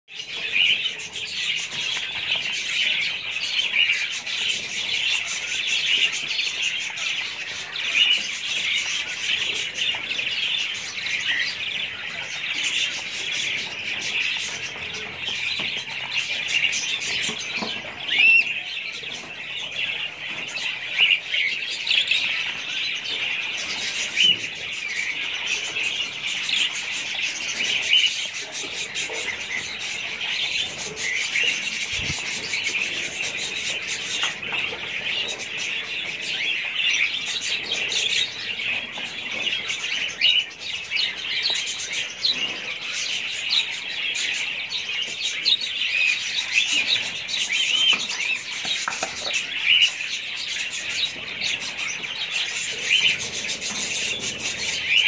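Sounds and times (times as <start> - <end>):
quail chicks peeping: 0.1 - 55.0.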